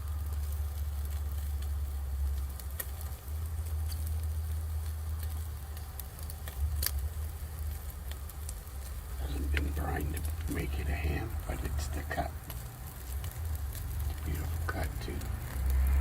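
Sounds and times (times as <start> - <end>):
fat crackling and popping: 0.0 - 16.0
steady low hum: 0.0 - 16.0.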